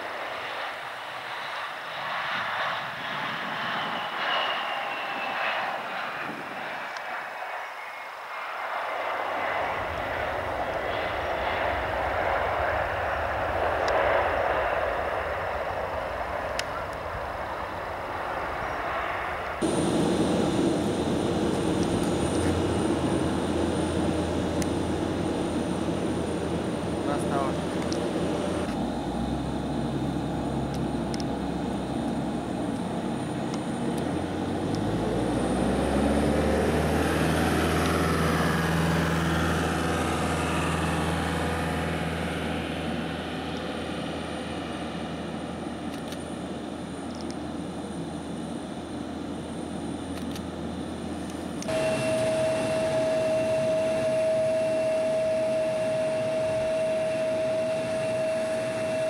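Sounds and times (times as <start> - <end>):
jet turbine whine: 0.0 - 59.0.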